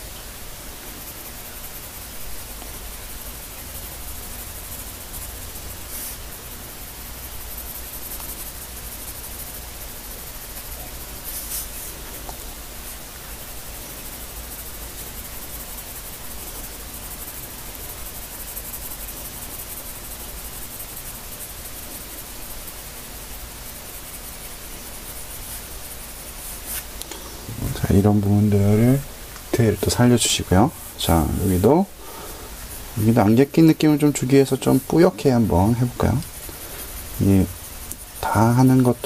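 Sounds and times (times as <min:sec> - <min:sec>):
steady hiss: 0:00.0 - 0:39.0
pencil scratching on paper: 0:03.4 - 0:31.7, 0:32.5 - 0:39.0.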